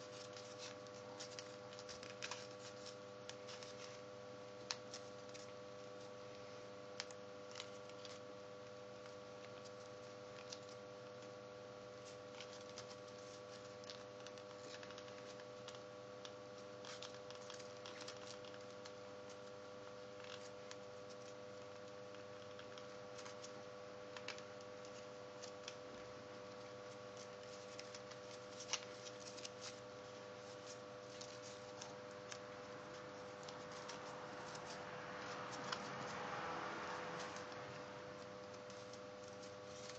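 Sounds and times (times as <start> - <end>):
small paper clicks: 0.0 - 11.3, 12.0 - 36.2, 37.1 - 39.9
faint steady hum: 0.0 - 39.9
paper crinkling: 0.0 - 39.9.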